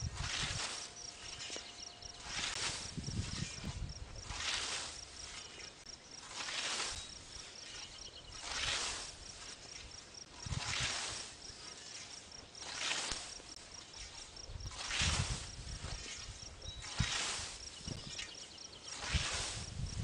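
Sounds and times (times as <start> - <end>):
scythe swishing through grass: 0.0 - 20.0.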